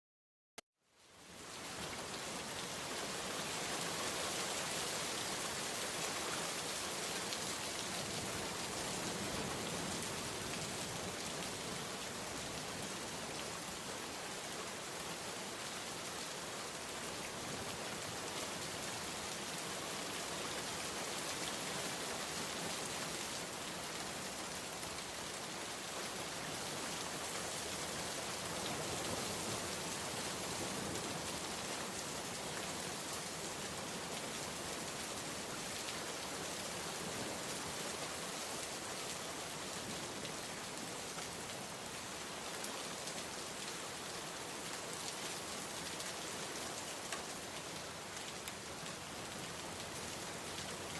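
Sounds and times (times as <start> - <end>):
steady rain falling: 0.8 - 50.9.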